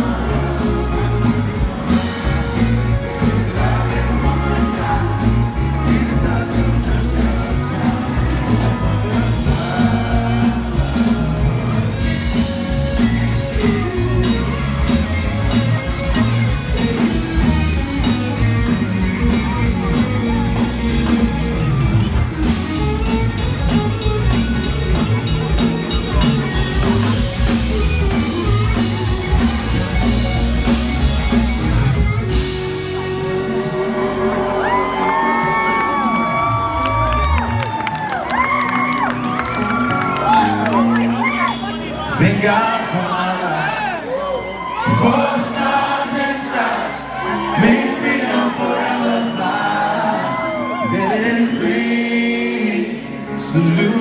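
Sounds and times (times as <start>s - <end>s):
country-rock band playing: 0.0s - 54.0s.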